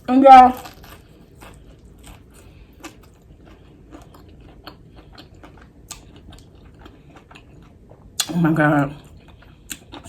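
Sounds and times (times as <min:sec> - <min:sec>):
chewing crunchy fried food: 0:00.0 - 0:10.0.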